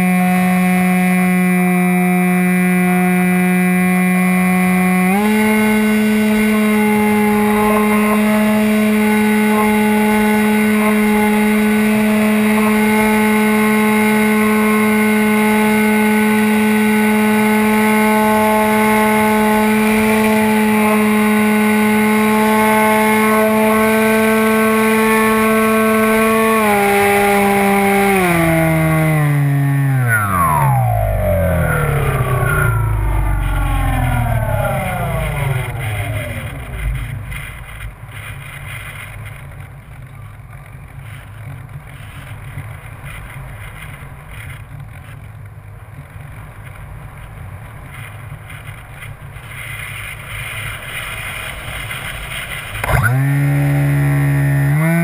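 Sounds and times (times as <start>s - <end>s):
model plane motor whining: 0.0s - 39.1s, 49.4s - 55.0s
wind rumbling on microphone: 5.2s - 54.3s.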